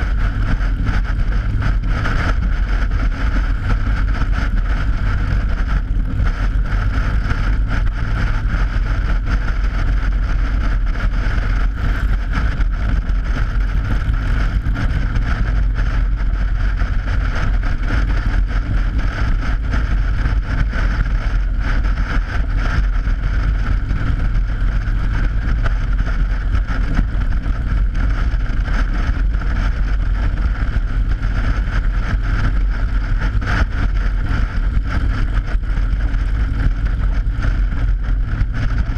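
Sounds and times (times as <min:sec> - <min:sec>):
motorcycle engine: 0:00.0 - 0:38.9
wind on microphone: 0:00.0 - 0:38.9.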